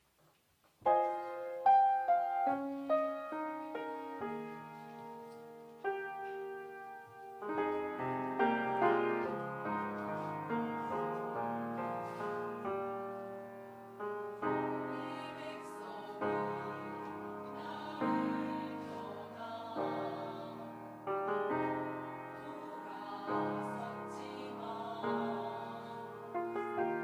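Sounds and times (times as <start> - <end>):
piano playing slow chords: 0.9 - 27.0.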